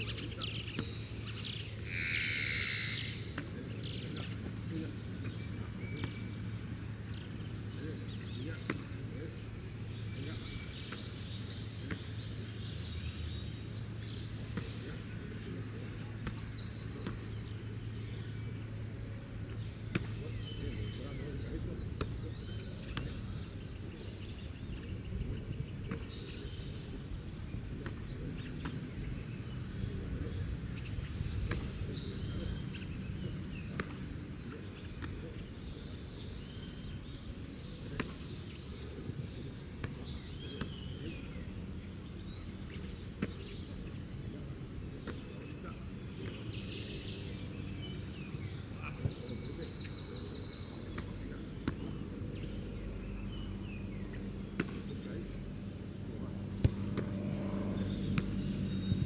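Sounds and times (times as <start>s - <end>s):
birds chirping: 0.0s - 59.0s
outdoor background noise: 0.0s - 59.0s.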